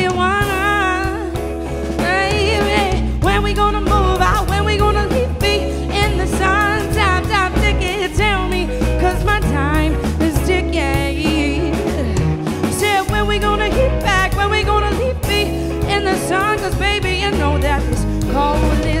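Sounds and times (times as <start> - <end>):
bass and drums groove: 0.0 - 19.0.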